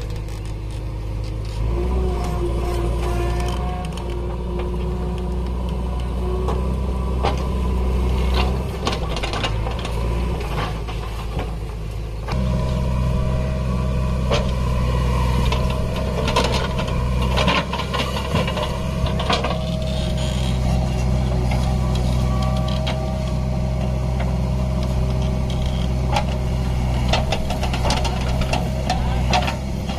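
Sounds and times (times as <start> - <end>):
diesel engines running: 0.0 - 29.9
hydraulics working: 0.0 - 29.9.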